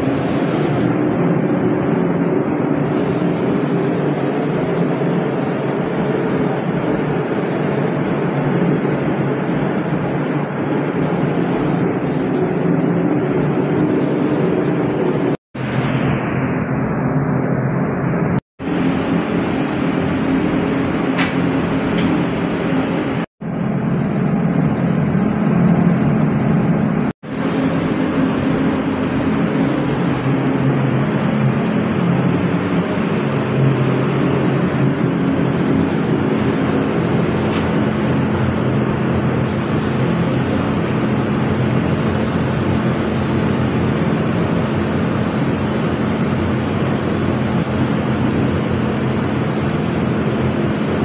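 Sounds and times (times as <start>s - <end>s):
paint spray gun hissing: 0.0s - 0.9s, 2.8s - 16.0s, 18.6s - 30.6s, 34.8s - 51.0s.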